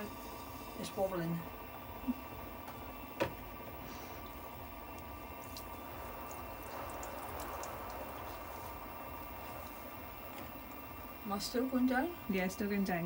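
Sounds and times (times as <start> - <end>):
potter's wheel motor hum: 0.0 - 13.0.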